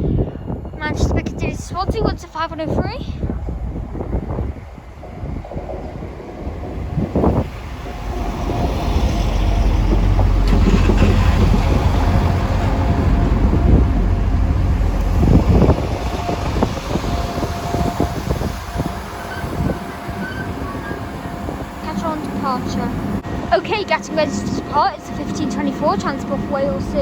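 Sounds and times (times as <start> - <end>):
steady high whine: 0.0 - 27.0
train arriving rumble: 0.0 - 27.0.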